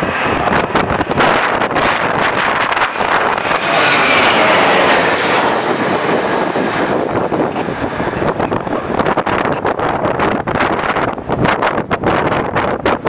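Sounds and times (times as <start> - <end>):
jet airliner engine noise: 0.0 - 13.0
wind buffeting microphone: 0.0 - 13.0.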